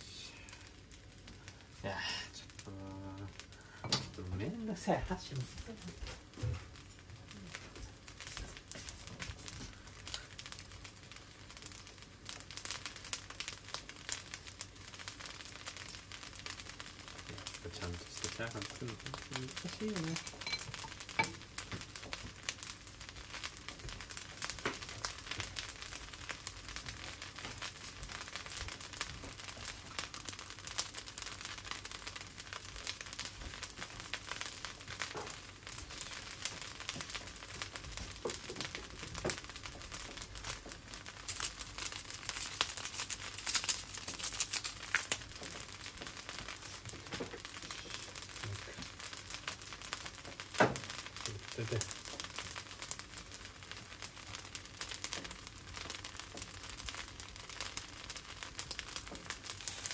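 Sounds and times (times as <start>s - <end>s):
rice sizzling in a wok: 0.0s - 59.9s.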